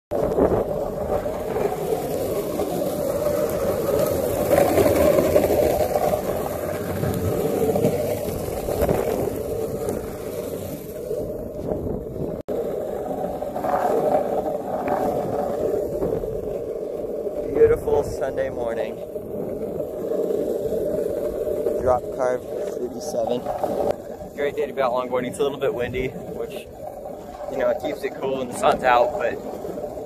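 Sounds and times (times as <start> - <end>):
skateboard wheels rolling on asphalt: 0.1 - 30.0.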